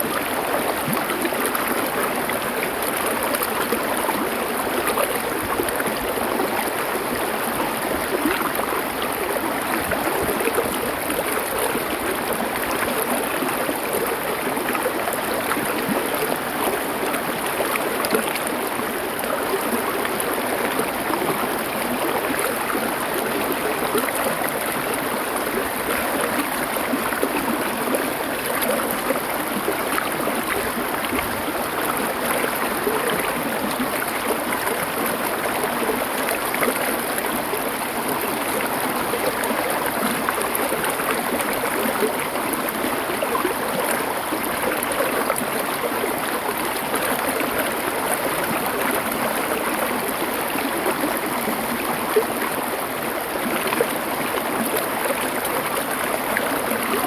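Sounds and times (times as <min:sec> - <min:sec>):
stream flowing over stones: 0:00.0 - 0:57.0.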